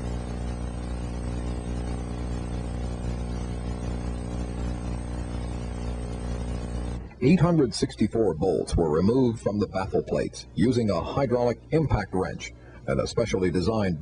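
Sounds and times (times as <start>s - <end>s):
constant hiss: 0.0s - 14.0s
steady low hum: 0.0s - 14.0s.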